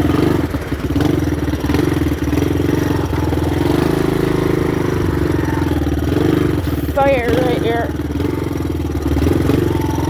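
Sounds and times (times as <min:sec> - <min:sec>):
dirt bike engine running: 0:00.0 - 0:10.0.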